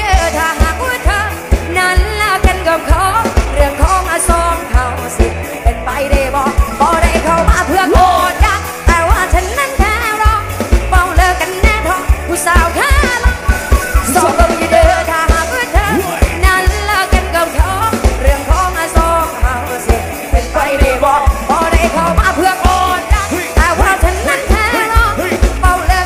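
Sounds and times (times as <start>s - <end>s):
bass guitar: 0.0s - 26.0s
drums: 0.0s - 26.0s
woman singing: 0.0s - 26.0s.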